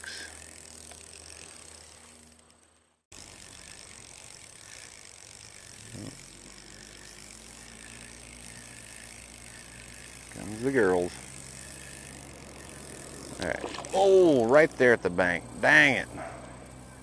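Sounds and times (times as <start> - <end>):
fishing reel whirring: 0.0 - 17.0.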